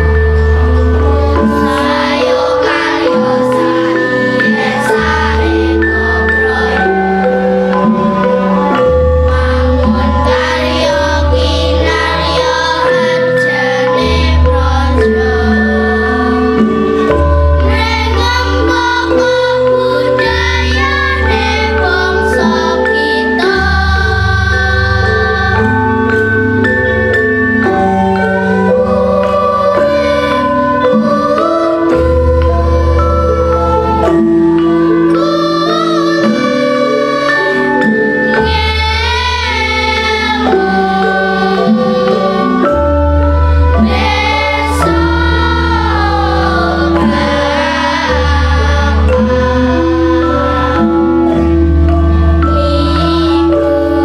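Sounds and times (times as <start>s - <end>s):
children's choir singing: 0.0s - 54.0s
sustained accompaniment with deep bass: 0.0s - 54.0s.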